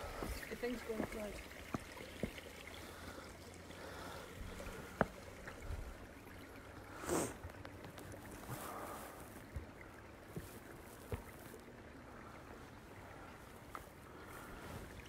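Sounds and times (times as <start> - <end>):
outdoor night ambience hiss: 0.0 - 15.0.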